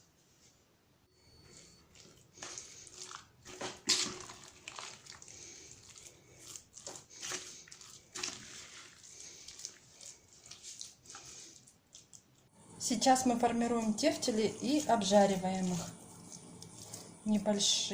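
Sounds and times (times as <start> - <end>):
squishing of minced meat mixing: 1.3 - 17.9.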